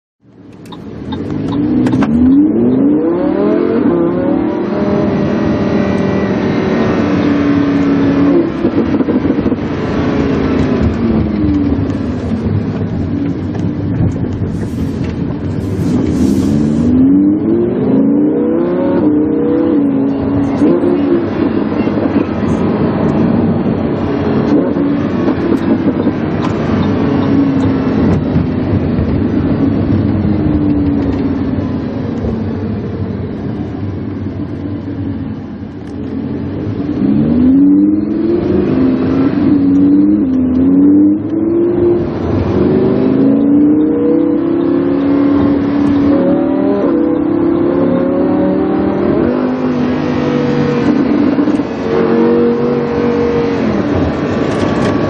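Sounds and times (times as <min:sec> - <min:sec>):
sports car engine accelerating: 0:00.2 - 0:55.0.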